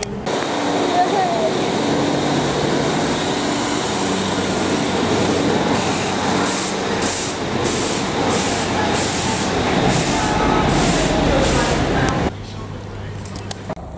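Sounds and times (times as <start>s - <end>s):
train rumbling: 0.0s - 12.4s.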